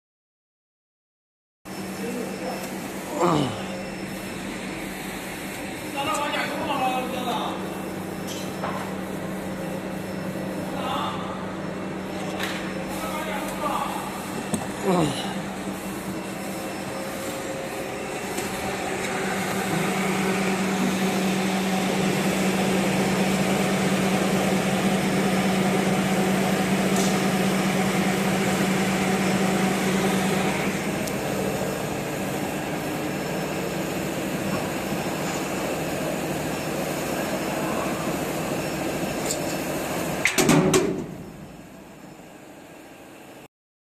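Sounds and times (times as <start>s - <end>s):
milling machine humming: 1.7s - 40.3s.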